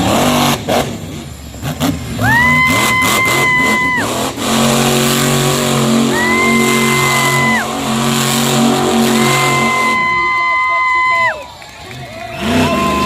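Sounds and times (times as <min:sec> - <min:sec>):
high engine whine: 0:00.0 - 0:13.0
truck engine revving: 0:00.0 - 0:13.0.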